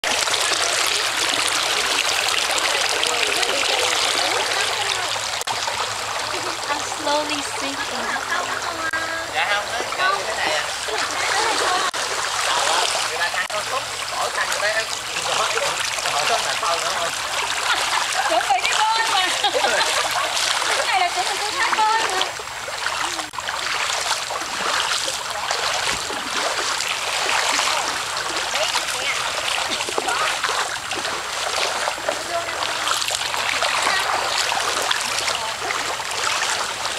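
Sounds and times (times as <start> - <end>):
stream water trickling: 0.0 - 36.9.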